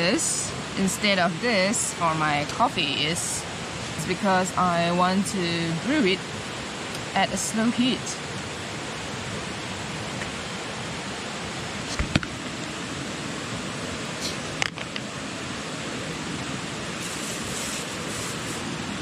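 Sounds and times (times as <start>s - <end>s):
river rushing: 0.0s - 4.9s, 5.7s - 19.0s.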